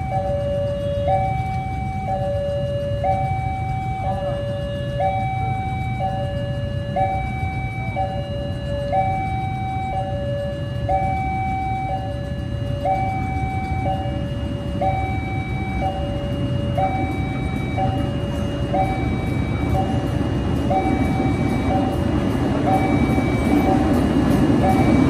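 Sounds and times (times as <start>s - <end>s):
motorcycle traffic rumble: 0.0s - 25.0s
two-tone crossing alarm: 0.0s - 25.0s.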